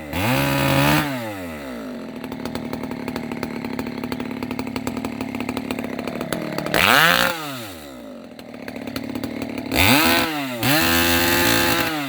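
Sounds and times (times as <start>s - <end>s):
chainsaw revving and idling: 0.0s - 12.0s.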